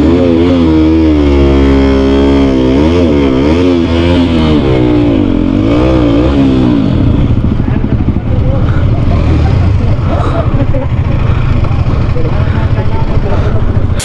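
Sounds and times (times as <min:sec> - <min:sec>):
motorcycle engine revving: 0:00.0 - 0:14.0
motorcycle engine idling: 0:00.9 - 0:14.0.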